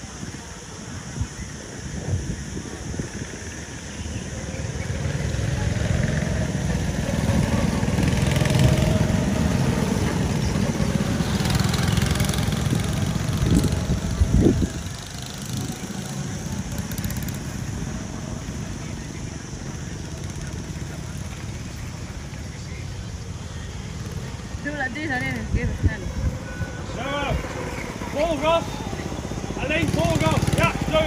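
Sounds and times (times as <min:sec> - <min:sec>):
go-kart engines buzzing: 0:00.0 - 0:31.0.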